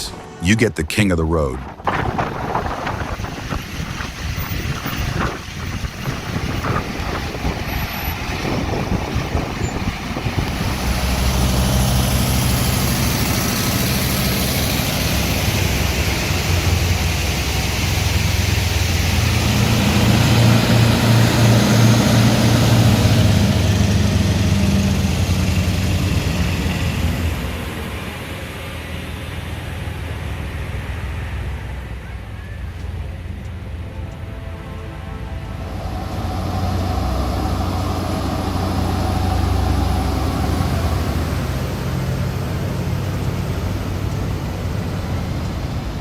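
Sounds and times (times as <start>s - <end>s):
heavy truck engine running: 0.0s - 46.0s
rough mixed rumble: 0.0s - 46.0s.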